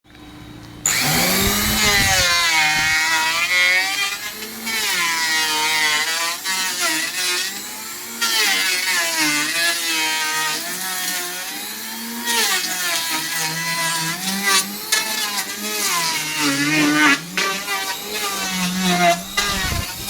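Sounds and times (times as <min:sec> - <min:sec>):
power tool cutting wood: 0:00.8 - 0:20.0.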